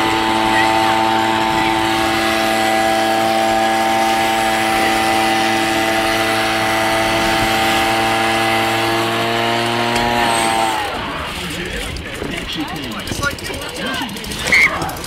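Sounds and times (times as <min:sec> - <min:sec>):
machine motor hum: 0:00.0 - 0:12.3.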